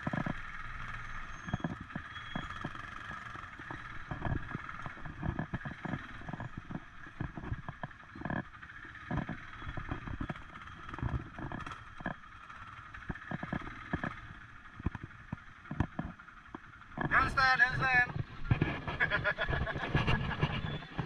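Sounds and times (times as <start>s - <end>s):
quad bike engine running: 0.0s - 21.0s.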